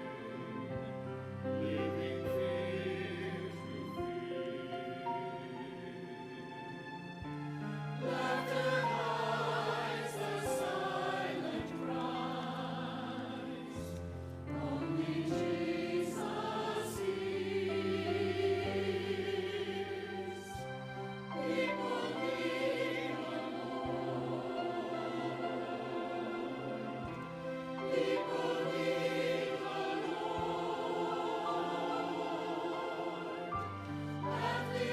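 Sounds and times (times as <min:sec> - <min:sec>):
church choir singing: 0:00.0 - 0:34.9.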